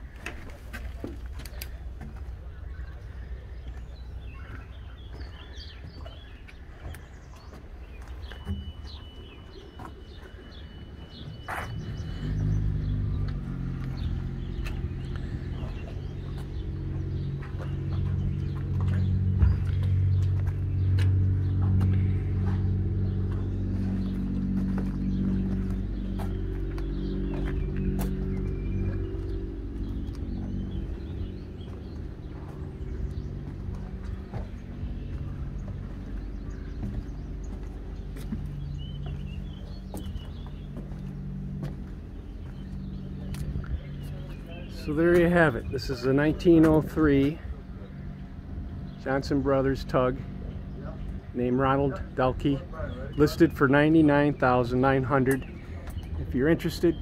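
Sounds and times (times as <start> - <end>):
birds chirping: 0.0 - 57.0
footsteps on boat deck: 0.0 - 57.0
low steady engine drone: 0.0 - 57.0.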